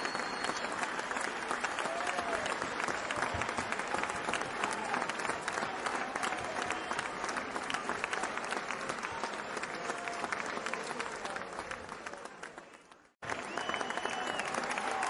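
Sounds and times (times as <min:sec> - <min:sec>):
crowd applause: 0:00.0 - 0:15.0.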